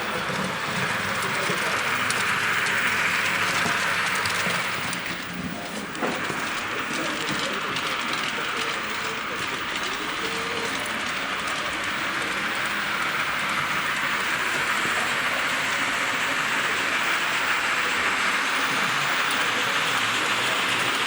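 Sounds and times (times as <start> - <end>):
model trains whirring on track: 0.0 - 21.0.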